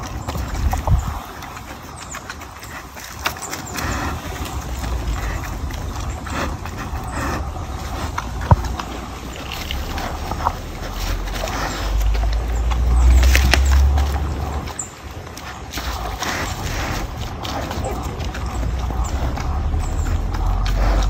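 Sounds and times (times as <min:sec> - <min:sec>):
low rumble: 0:00.0 - 0:02.8, 0:03.6 - 0:21.0.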